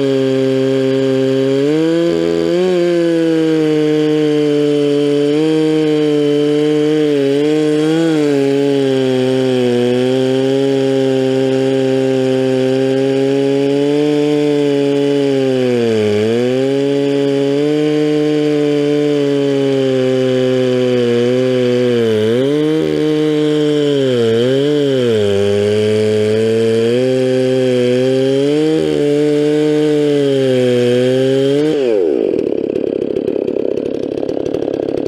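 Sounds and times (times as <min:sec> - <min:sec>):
chainsaw cutting through log: 0:00.0 - 0:35.0.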